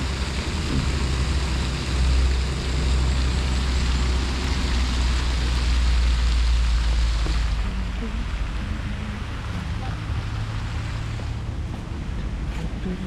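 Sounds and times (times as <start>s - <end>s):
deep rumble: 0.0s - 13.0s
outdoor ambient hiss: 0.0s - 13.0s.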